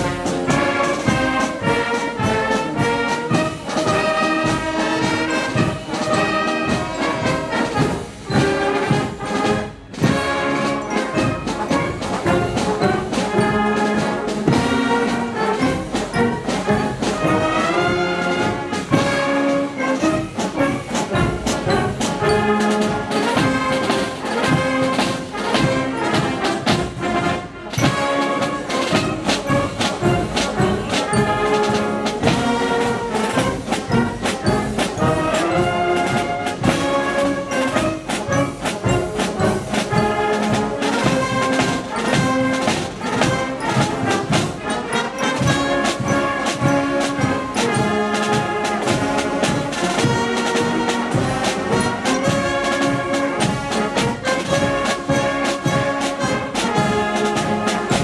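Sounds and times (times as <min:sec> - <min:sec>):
bass drum and snare drum: 0:00.0 - 0:58.0
wind band playing: 0:00.0 - 0:58.0.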